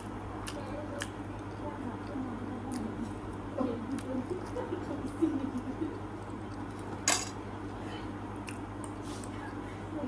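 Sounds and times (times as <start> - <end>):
wet chewing sounds: 0.0 - 7.0, 7.7 - 9.7
steady low hum: 0.0 - 10.0.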